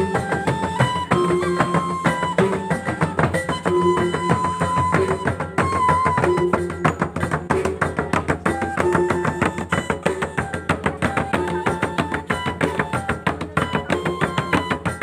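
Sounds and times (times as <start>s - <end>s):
fast interlocking drum strokes: 0.0s - 15.0s
wind instrument melody: 0.0s - 15.0s.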